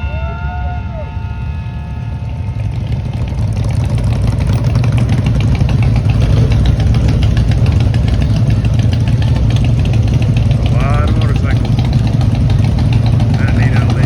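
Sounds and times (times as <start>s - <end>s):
motorcycle engines: 0.0s - 14.0s.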